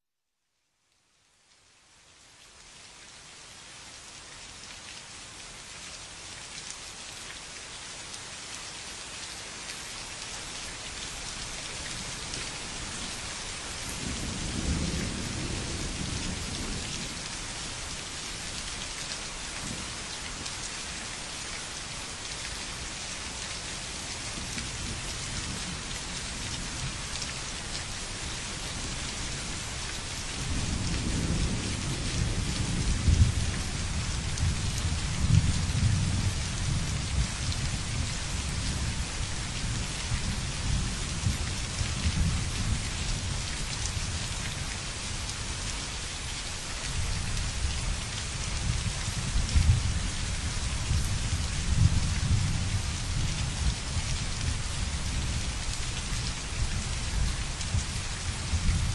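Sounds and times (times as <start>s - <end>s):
steady rain: 0.6s - 58.9s.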